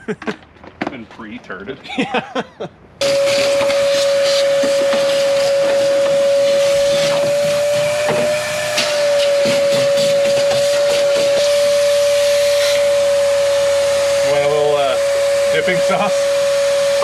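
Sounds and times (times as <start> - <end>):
shop vacuum whining: 3.0 - 17.0.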